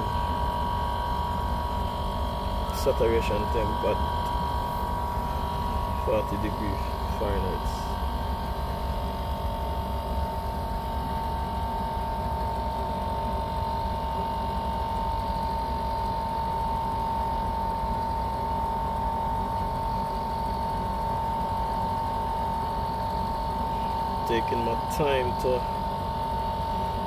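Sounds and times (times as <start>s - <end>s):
air conditioner unit humming: 0.0s - 27.0s
steady high whine: 0.0s - 27.0s.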